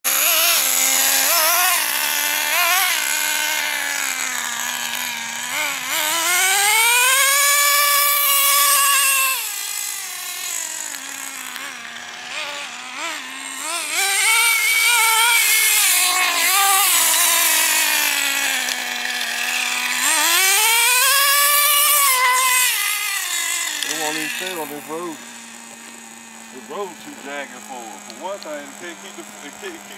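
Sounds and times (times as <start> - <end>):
small model car engine revving: 0.0 - 29.9.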